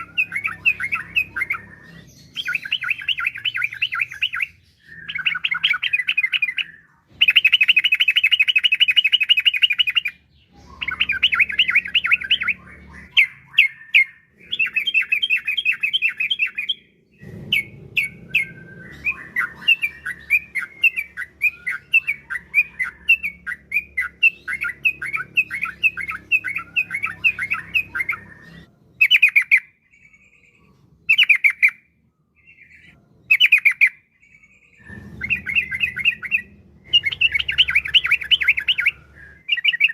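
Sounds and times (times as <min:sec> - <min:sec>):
bird singing chattering notes: 0:00.0 - 0:31.8, 0:32.4 - 0:39.9.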